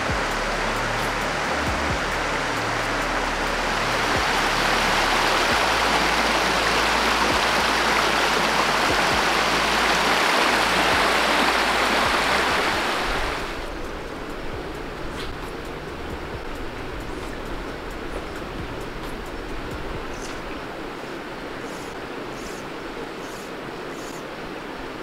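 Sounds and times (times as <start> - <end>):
river water rushing over stones: 0.0 - 25.0.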